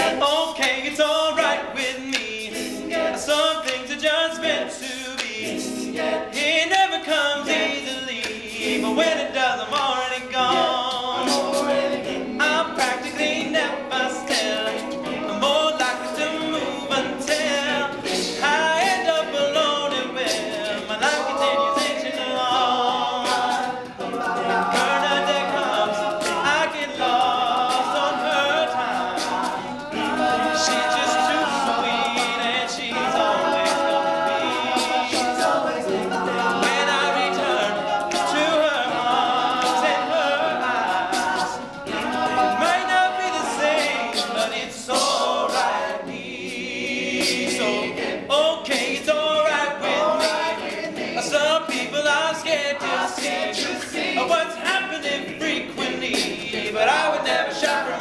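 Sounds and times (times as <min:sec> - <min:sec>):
male voices singing in harmony: 0:00.0 - 0:58.0.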